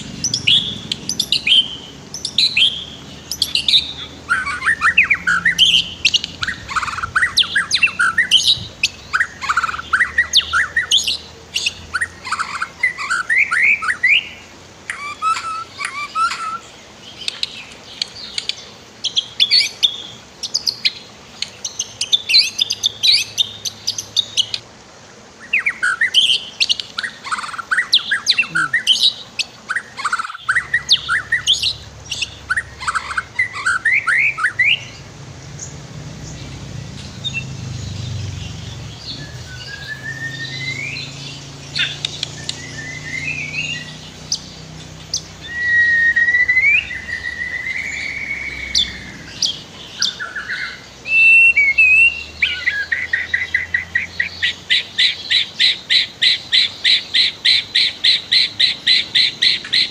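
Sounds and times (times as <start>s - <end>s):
songbird chirping and whistling: 0.2s - 24.6s, 25.5s - 59.9s.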